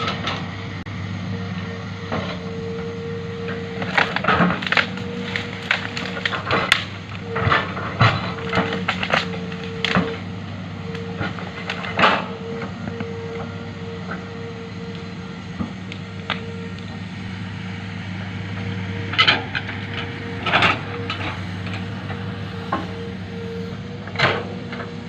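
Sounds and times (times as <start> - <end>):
excavator diesel engine running: 0.0 - 25.0
high-pitched hum: 0.0 - 25.0.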